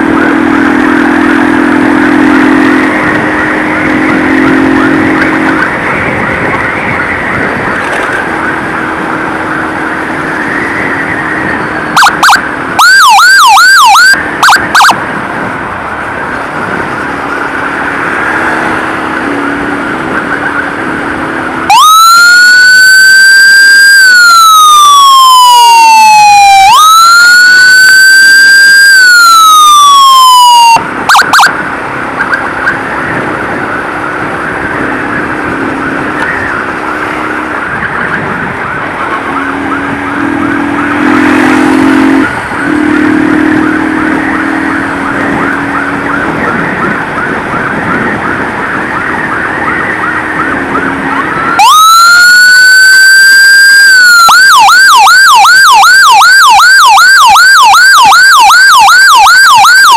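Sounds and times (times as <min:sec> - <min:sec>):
fast-warbling siren: 0:00.0 - 0:15.2, 0:17.2 - 0:31.7, 0:32.7 - 0:59.9
siren wailing: 0:00.0 - 0:15.2, 0:16.1 - 0:31.8, 0:32.7 - 0:59.9.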